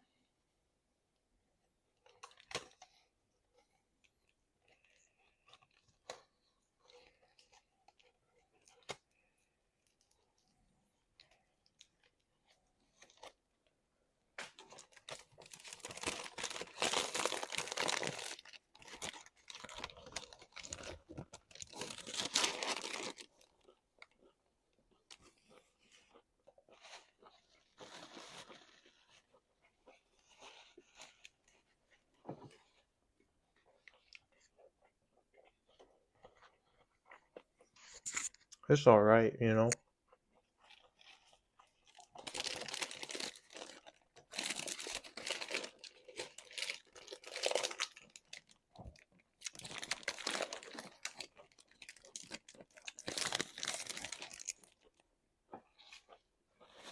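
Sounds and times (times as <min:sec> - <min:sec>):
soft chewing: 0:01.6 - 0:38.6, 0:39.7 - 0:56.9.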